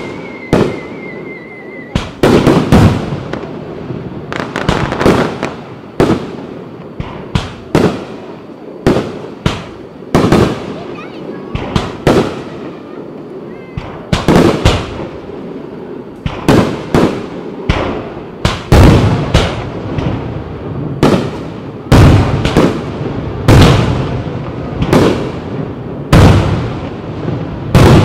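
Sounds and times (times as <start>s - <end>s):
fireworks bangs with echo: 0.0s - 28.0s.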